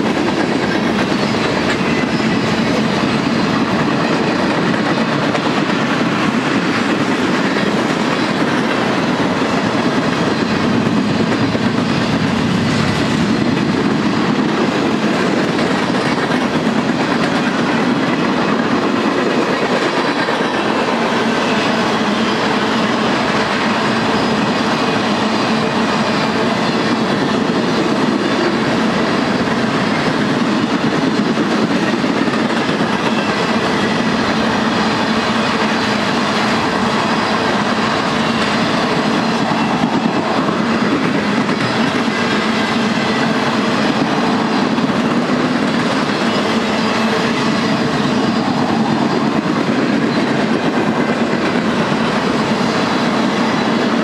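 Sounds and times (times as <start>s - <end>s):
train wheels clicking over rail joints: 0.0s - 54.0s.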